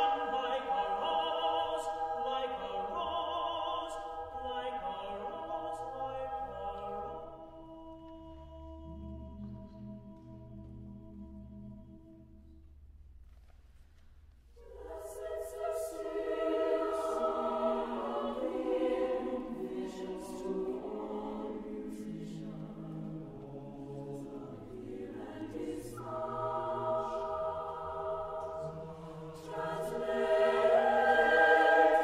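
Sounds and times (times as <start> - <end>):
choir singing unaccompanied: 0.0 - 10.6, 14.6 - 32.0.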